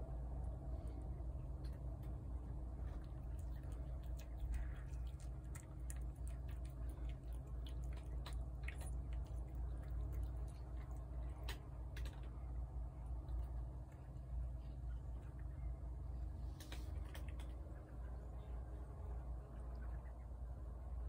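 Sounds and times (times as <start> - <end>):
steady low rumble: 0.0 - 21.0
cat chewing food: 0.1 - 20.5.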